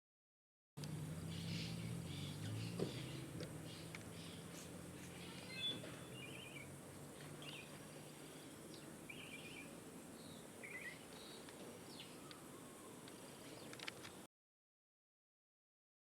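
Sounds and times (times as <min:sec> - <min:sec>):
small birds chirping: 0:00.8 - 0:14.2
steady background hiss: 0:00.9 - 0:14.3.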